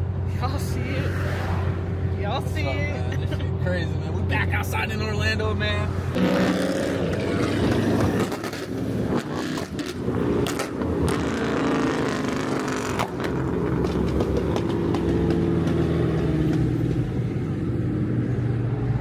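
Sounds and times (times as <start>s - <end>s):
car engine cruising hum: 0.0s - 19.0s.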